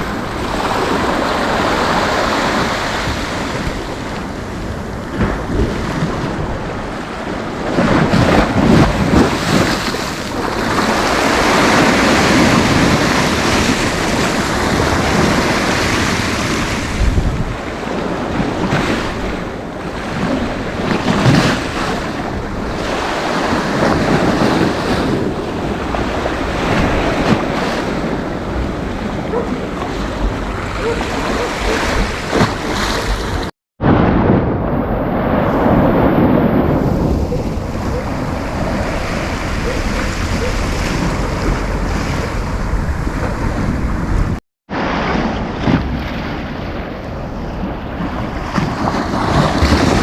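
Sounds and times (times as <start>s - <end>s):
waves breaking on sandy beach: 0.0s - 50.0s
wind buffeting microphone: 0.0s - 50.0s.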